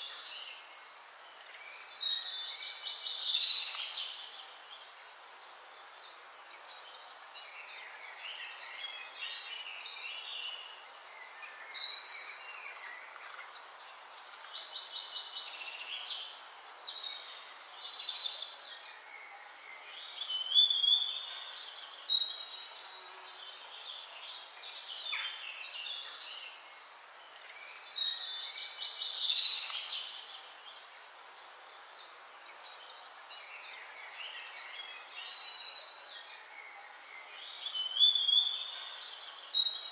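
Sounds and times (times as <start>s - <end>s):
background hiss: 0.0s - 39.9s
birds chirping and singing: 0.0s - 39.9s.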